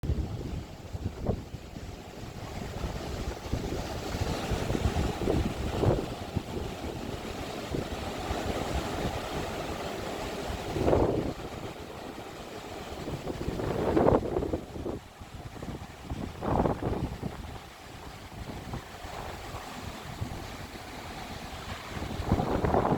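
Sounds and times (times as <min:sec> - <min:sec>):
ocean surf: 0:00.0 - 0:22.9
wind buffeting microphone: 0:00.0 - 0:22.9.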